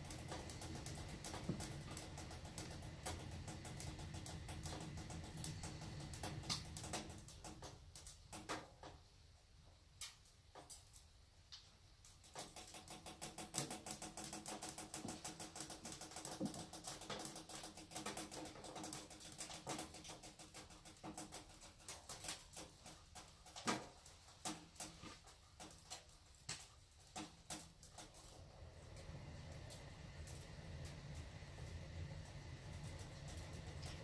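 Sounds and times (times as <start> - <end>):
pellet stove crackling: 0.0 - 9.0, 10.0 - 34.0
faint steady hum: 0.0 - 24.4, 25.0 - 34.0.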